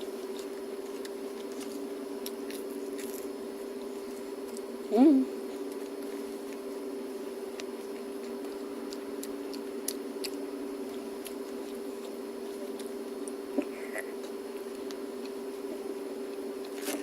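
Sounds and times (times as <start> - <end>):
crunchy chewing: 0.0 - 17.0
steady low hum: 0.0 - 17.0.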